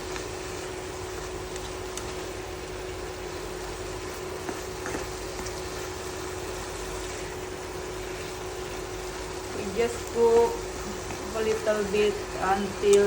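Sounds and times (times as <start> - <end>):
chicken sizzling in a pan: 0.0 - 13.0
steady hum: 0.0 - 13.0.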